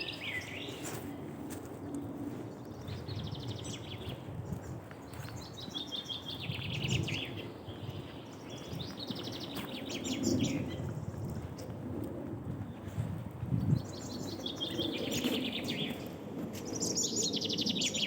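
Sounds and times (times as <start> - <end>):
songbird singing: 0.0 - 1.0, 2.5 - 11.7, 13.7 - 18.0.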